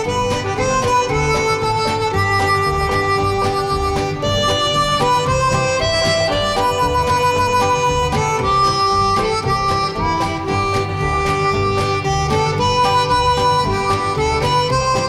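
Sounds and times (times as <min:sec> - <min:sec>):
background music melody: 0:00.0 - 0:15.0.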